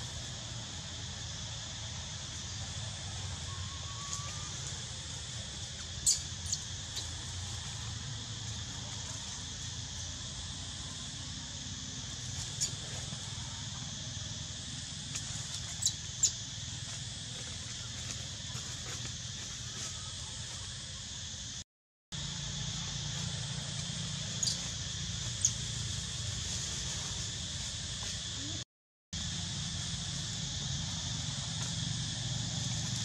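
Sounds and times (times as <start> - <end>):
steady insect drone: 0.0 - 21.6, 22.2 - 28.6, 29.2 - 33.0.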